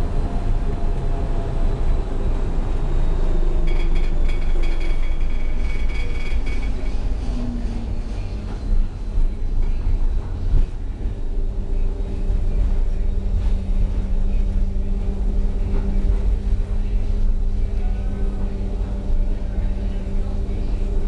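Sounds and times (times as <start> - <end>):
steady low hum: 0.0 - 21.0
tram wheels rumbling on rails: 0.0 - 21.0.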